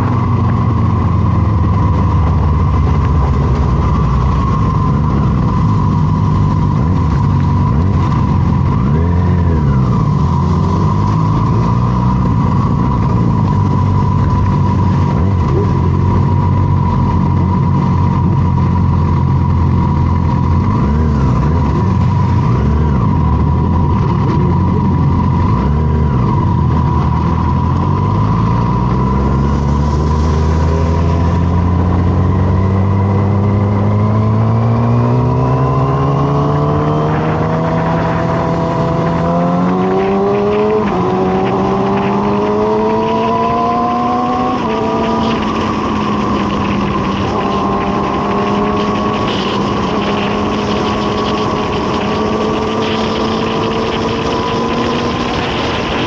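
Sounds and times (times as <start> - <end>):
motorcycle engine accelerating: 0.0 - 56.0
steady high whine: 0.0 - 56.0.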